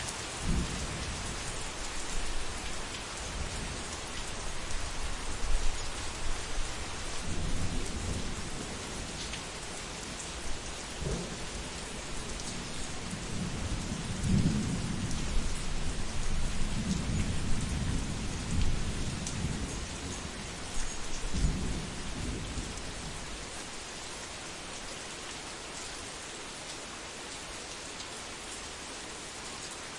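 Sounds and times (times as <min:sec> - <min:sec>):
steady rain hissing: 0:00.0 - 0:29.9.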